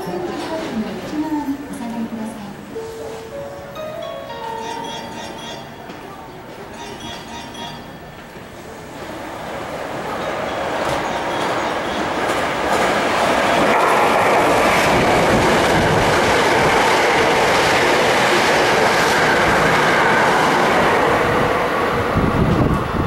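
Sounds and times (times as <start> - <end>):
train passing: 0.0 - 23.0.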